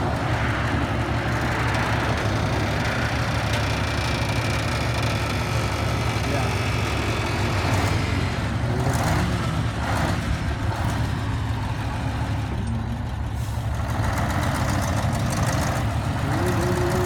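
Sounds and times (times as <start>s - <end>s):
diesel machinery engine running: 0.0s - 17.0s.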